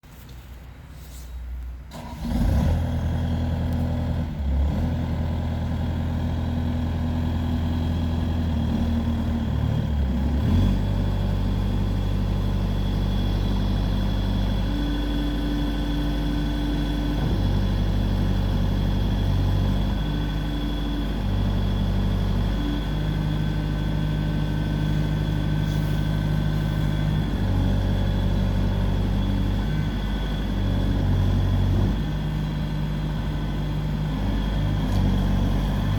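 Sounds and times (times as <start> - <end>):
diesel engine revving: 1.9 - 35.9.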